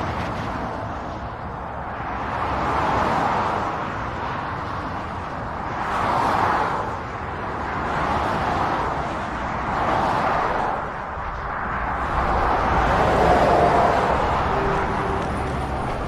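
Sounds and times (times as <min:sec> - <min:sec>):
cars passing: 0:00.0 - 0:16.0
steady traffic wash: 0:00.0 - 0:16.0.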